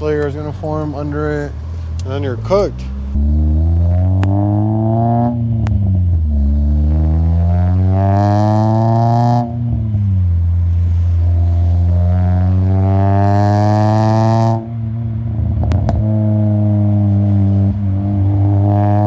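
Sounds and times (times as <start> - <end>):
car engine pulling under load: 0.0 - 19.0.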